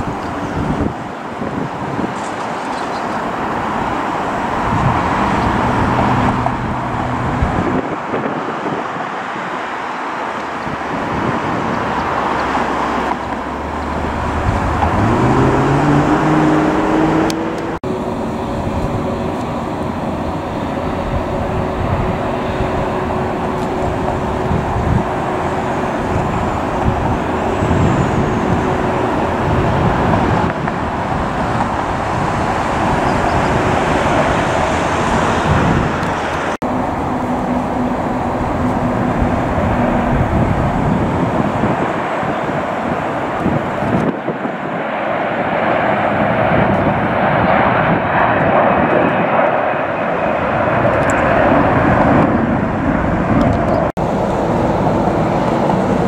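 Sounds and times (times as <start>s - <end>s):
jet engines taxiing: 0.0s - 56.0s
turboprop engines taxiing: 0.0s - 56.0s.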